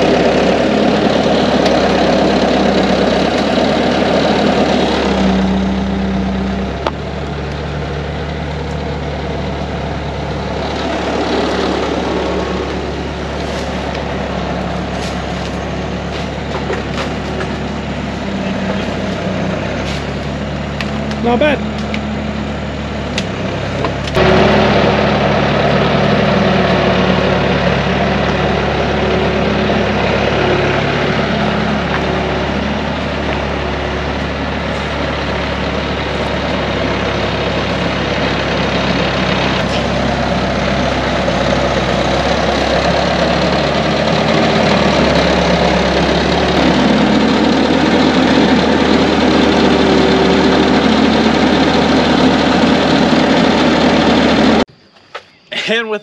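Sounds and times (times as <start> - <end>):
loader engine running: 0.0 - 54.8.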